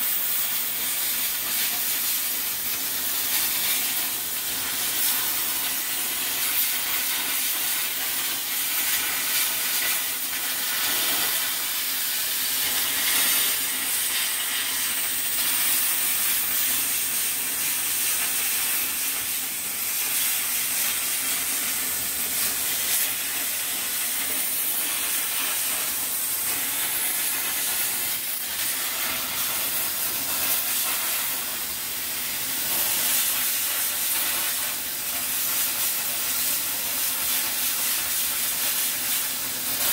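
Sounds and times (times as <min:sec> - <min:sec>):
plasma cutter hissing: 0:00.0 - 0:39.9.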